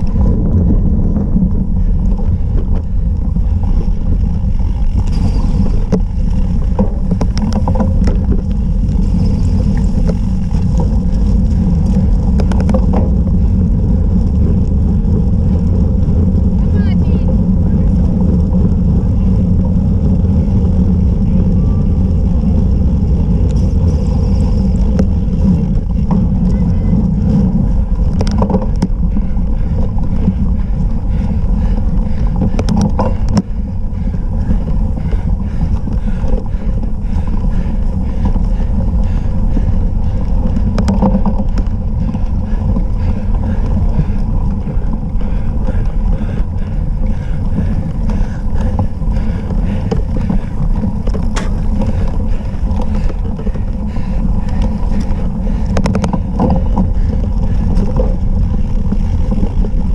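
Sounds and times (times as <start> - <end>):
bike rumble on rough ground: 0.0 - 59.9
wind buffeting: 0.0 - 59.9.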